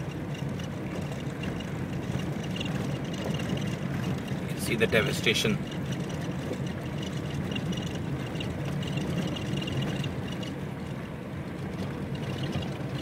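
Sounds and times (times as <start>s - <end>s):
vehicle rumbling on dirt road: 0.0s - 13.0s.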